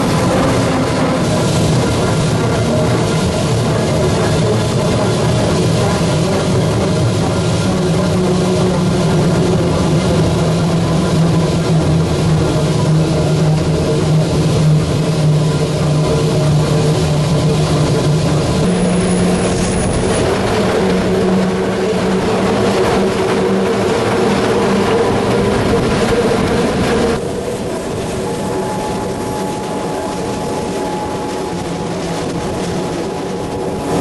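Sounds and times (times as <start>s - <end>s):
electric locomotive motor hum: 0.0s - 34.0s
rail running noise: 0.0s - 34.0s.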